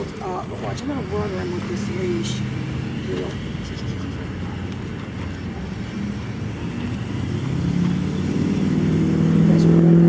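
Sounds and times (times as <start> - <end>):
pitched engine hum: 0.0 - 10.0
vehicle engine rumble approaching: 0.0 - 10.0.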